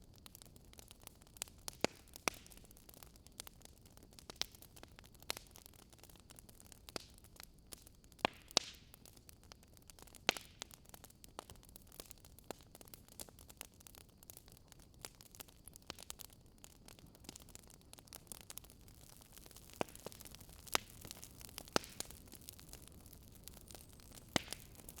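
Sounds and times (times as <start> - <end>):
faint steady hiss: 0.0 - 25.0
wood fire crackling: 0.0 - 25.0.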